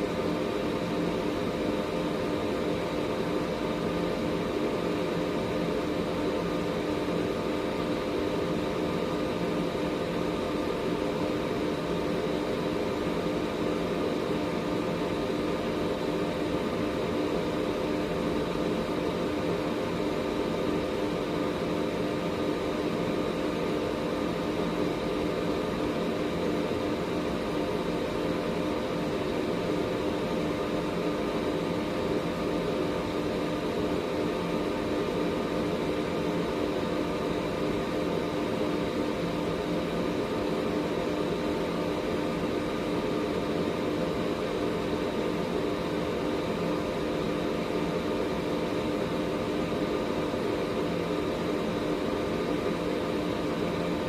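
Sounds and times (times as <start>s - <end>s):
air purifier fan whoosh: 0.0s - 54.0s.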